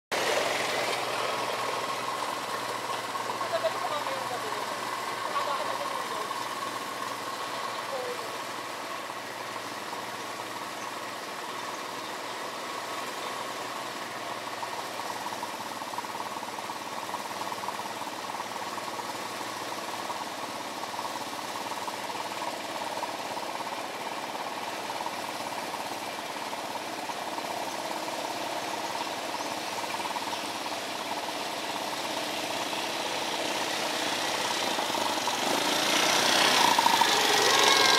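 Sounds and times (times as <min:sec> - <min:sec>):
quad bike engine running: 0:00.1 - 0:37.9.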